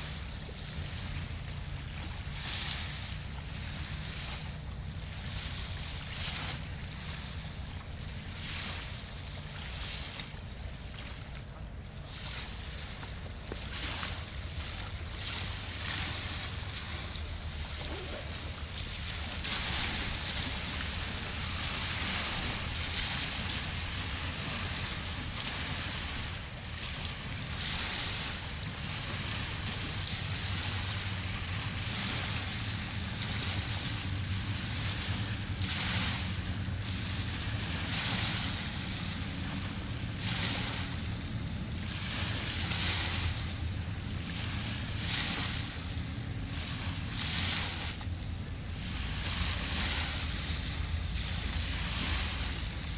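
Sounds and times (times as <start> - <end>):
river water washing: 0.0 - 52.9
ship engine hum: 0.0 - 52.9.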